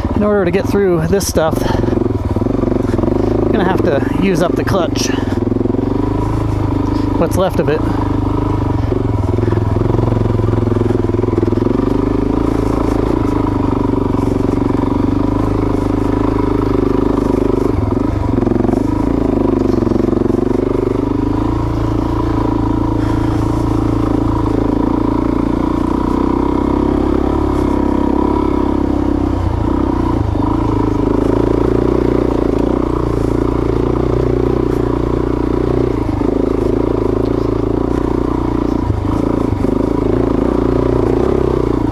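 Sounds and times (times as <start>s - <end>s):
dirt bike engine pulling hard: 0.0s - 41.9s.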